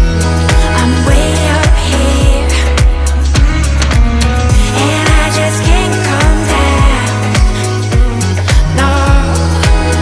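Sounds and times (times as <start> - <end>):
electronic music with heavy kick: 0.0 - 10.0.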